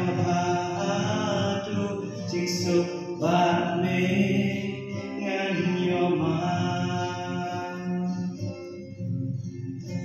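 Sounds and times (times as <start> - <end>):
man and woman singing: 0.0 - 8.4
guitar accompaniment: 0.0 - 10.0.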